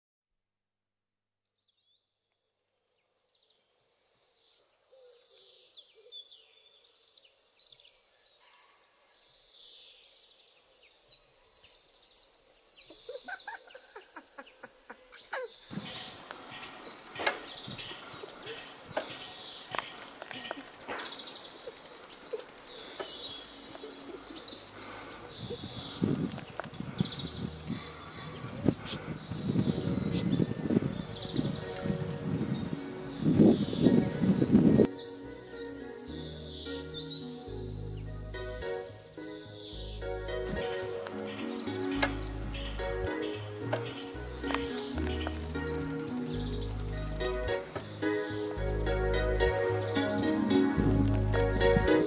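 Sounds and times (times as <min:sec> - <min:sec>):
birds singing and chirping: 0:04.3 - 0:52.0.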